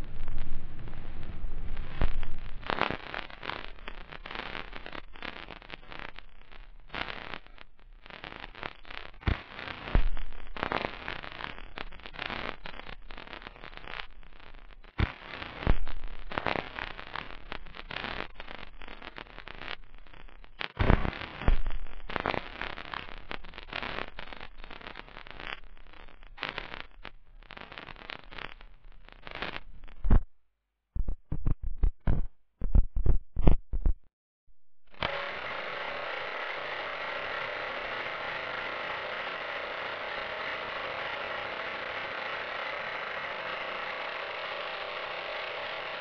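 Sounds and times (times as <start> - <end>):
crackling with irregular pops: 0.0 - 34.1, 34.9 - 46.0.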